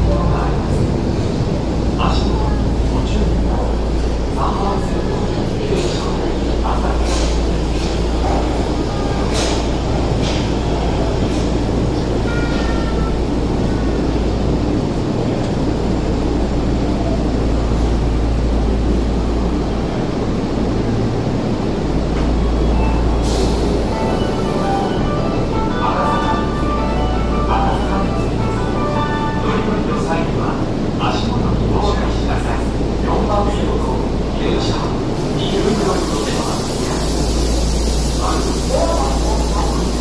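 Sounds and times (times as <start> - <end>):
subway train rumble: 0.0 - 40.0.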